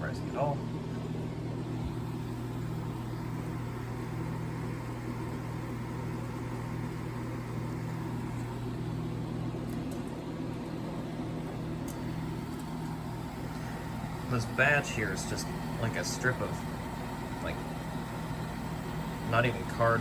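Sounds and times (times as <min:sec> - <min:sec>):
air conditioner fan rushing: 0:00.0 - 0:20.0.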